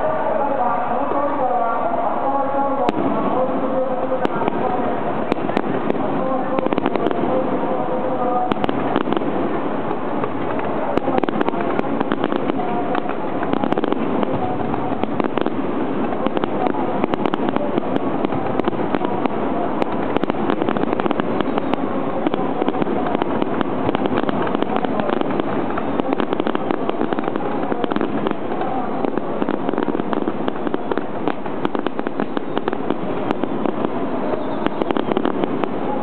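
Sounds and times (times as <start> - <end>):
fireworks popping and crackling: 2.8 - 36.0.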